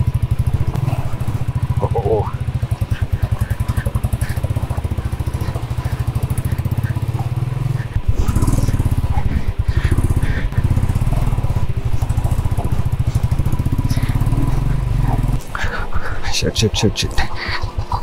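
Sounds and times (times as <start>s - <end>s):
motorcycle engine under load: 0.0s - 16.4s.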